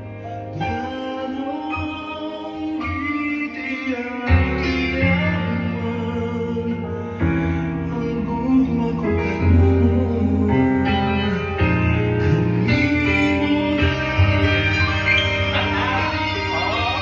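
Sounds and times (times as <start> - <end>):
slow tender song with guitar: 0.0 - 17.0.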